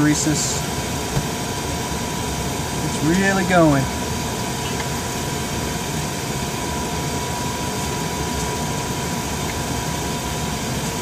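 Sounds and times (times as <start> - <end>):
cockpit machinery drone: 0.0 - 11.0
thin steady whine: 0.0 - 11.0.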